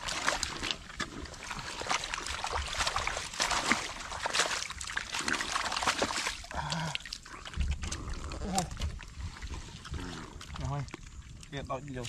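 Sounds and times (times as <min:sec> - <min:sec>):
hands splashing in muddy water: 0:00.0 - 0:11.0
water dribbling: 0:00.0 - 0:12.0
wet mud squelching: 0:00.0 - 0:12.0.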